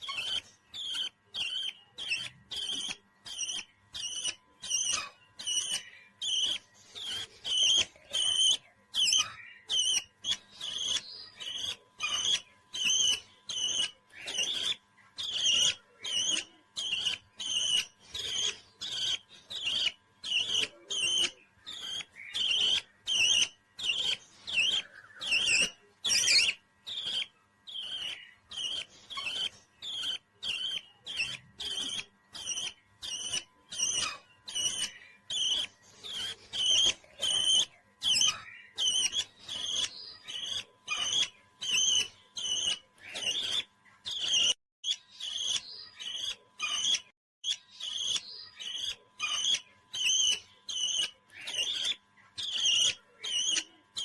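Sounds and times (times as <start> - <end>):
parrot chirping: 0.0 - 54.0.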